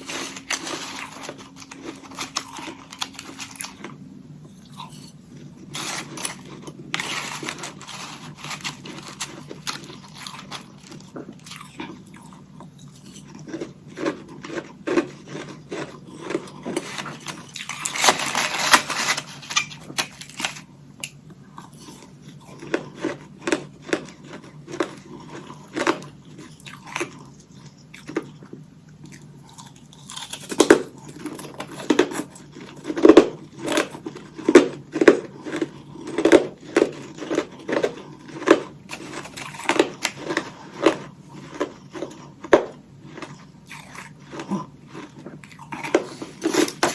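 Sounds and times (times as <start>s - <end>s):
chewing crunchy ice: 0.0s - 46.9s.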